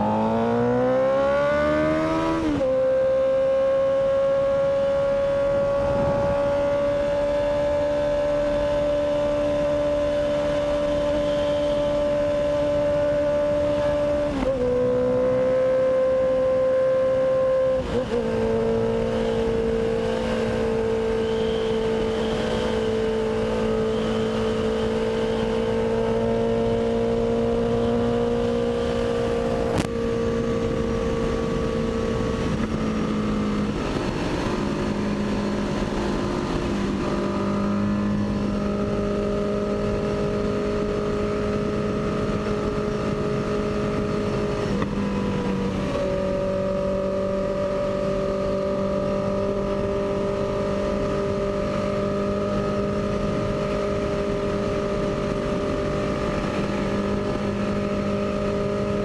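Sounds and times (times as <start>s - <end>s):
motorcycle engine running: 2.1s - 59.0s.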